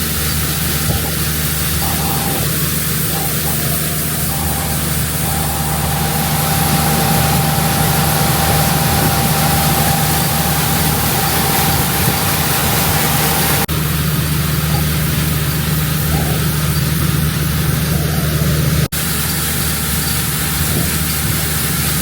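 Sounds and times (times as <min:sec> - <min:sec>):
thin steady whine: 0:00.0 - 0:18.9
combine harvester engine running: 0:00.0 - 0:20.8.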